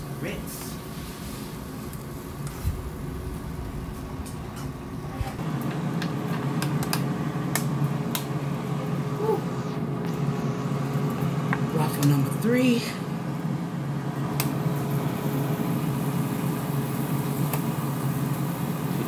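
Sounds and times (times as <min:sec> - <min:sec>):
air fryer fan humming: 0:00.0 - 0:19.0.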